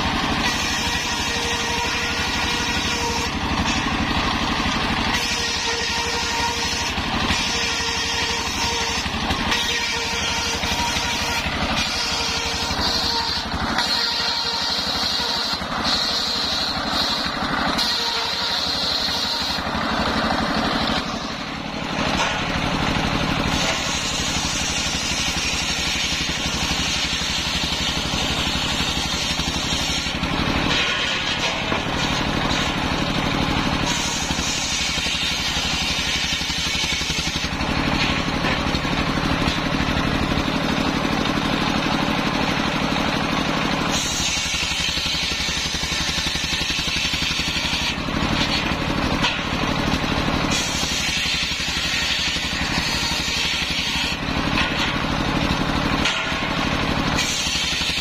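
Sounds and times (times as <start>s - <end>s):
circular saw ripping logs: 0.0s - 58.0s
diesel engine running: 0.0s - 58.0s.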